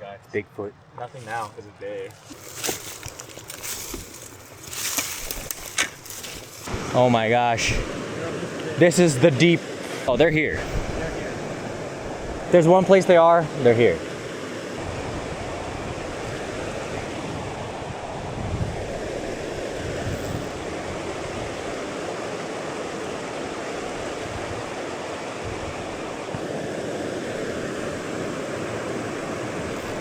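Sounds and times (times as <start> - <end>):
river current rushing: 1.2 - 30.0.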